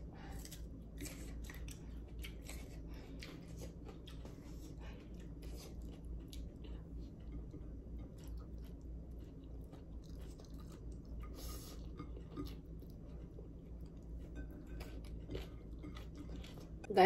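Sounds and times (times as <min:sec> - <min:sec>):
person chewing with wet mouth sounds: 0:00.0 - 0:16.9
steady low hum: 0:00.0 - 0:17.0.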